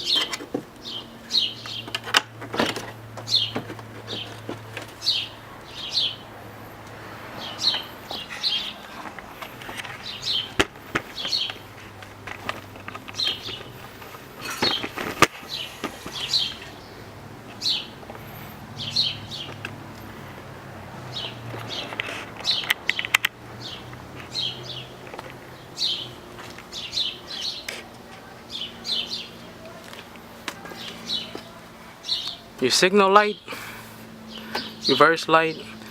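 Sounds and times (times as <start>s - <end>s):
bird chirping: 0.0s - 6.4s, 7.3s - 20.4s, 21.0s - 29.8s, 30.6s - 35.9s.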